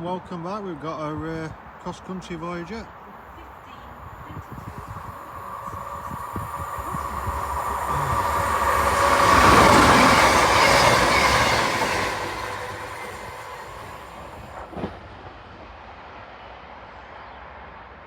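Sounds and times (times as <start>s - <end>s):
diesel train passing: 1.6s - 18.0s.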